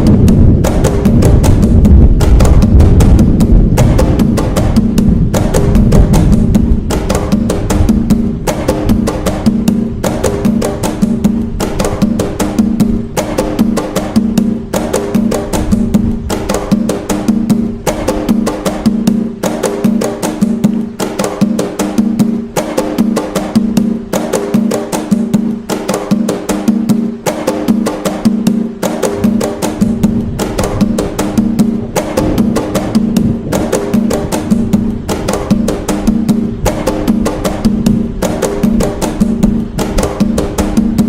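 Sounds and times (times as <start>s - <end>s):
hand drums playing rhythm: 0.0s - 41.0s.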